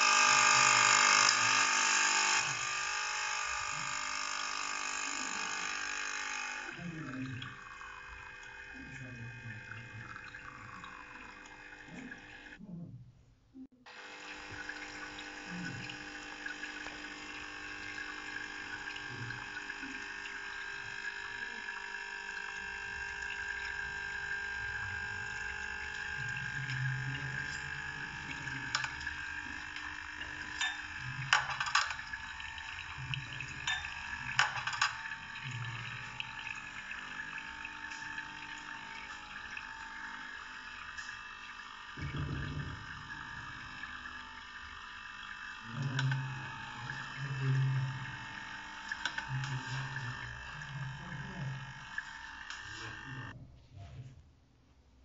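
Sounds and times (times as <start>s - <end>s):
espresso machine hum: 0.0s - 12.6s, 13.9s - 53.4s
liquid running: 0.0s - 12.6s, 14.0s - 53.4s.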